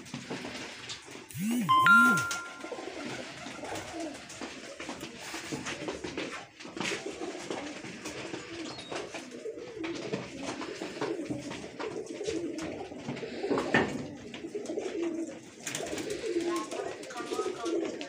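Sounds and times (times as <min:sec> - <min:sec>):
pigeons cooing: 0:02.3 - 0:18.0.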